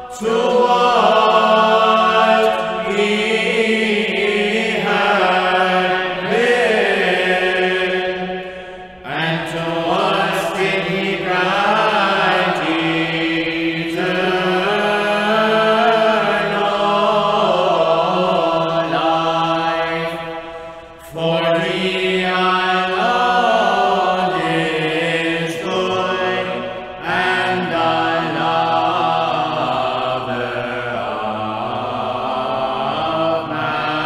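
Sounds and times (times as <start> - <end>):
choir chanting over drone: 0.0 - 34.0.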